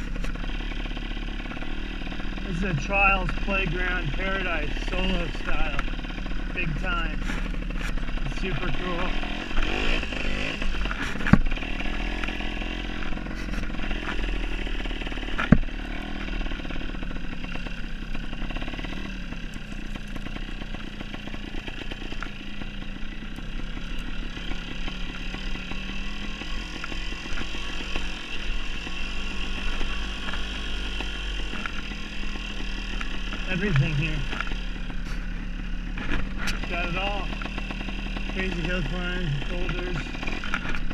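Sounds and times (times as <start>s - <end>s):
dirt bike engine: 0.0s - 40.9s.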